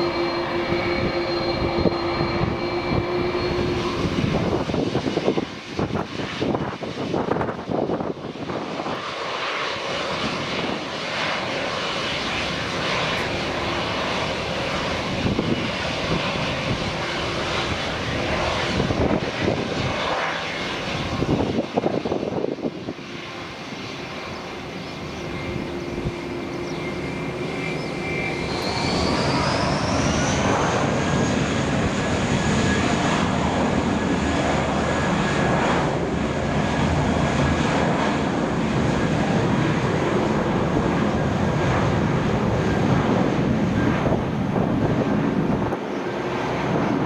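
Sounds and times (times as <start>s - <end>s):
jet engines spooling up: 0.0s - 47.0s.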